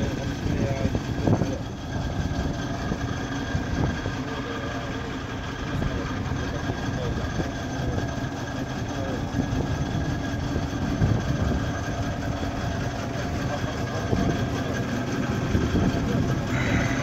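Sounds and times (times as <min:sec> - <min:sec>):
drilling rig engine running: 0:00.0 - 0:17.0.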